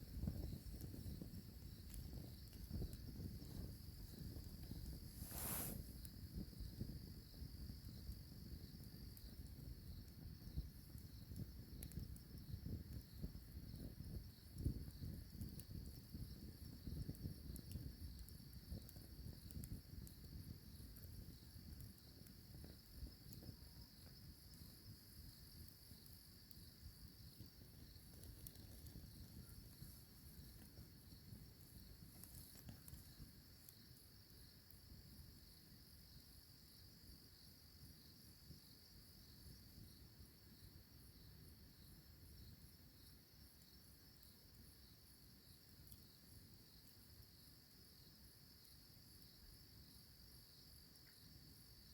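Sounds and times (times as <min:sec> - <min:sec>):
crickets chirring: 0:00.0 - 0:51.9.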